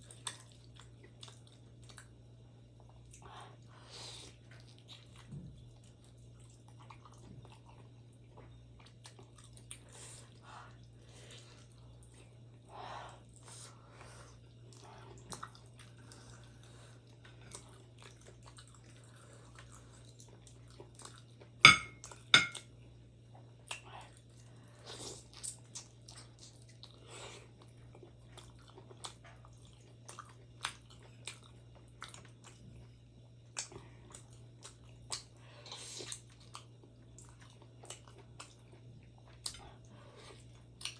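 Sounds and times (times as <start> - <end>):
person chewing food: 0.0 - 40.9
steady low hum: 0.0 - 40.9.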